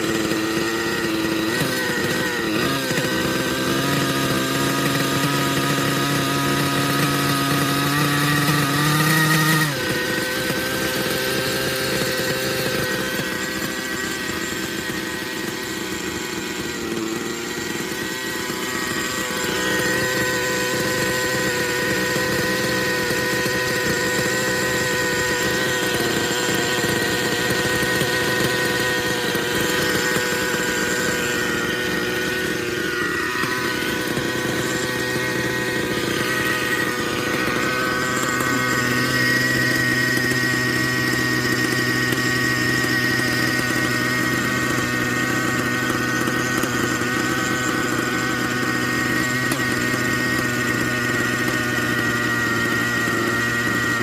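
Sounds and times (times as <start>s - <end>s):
model helicopter engine buzzing: 0.0s - 54.0s.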